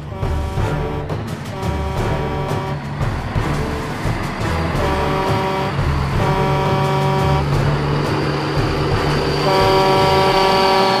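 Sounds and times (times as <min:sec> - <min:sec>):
low engine rumble: 0:00.0 - 0:11.0
truck air horn: 0:00.0 - 0:11.0.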